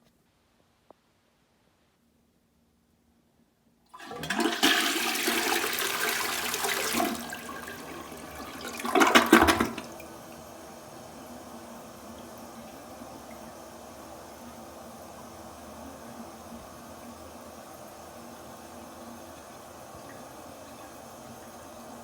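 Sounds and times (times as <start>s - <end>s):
toilet flushing: 3.9s - 22.0s.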